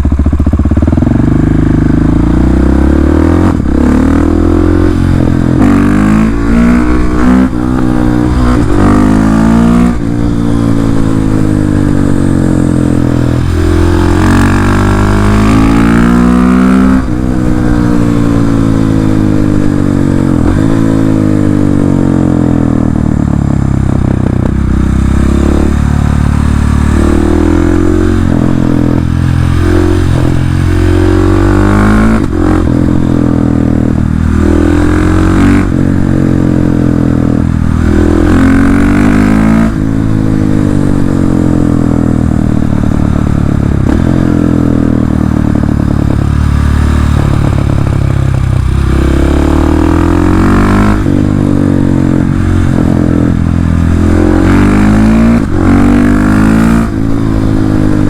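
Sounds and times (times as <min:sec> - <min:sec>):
motorcycle engine revving hard: 0:00.0 - 0:58.0.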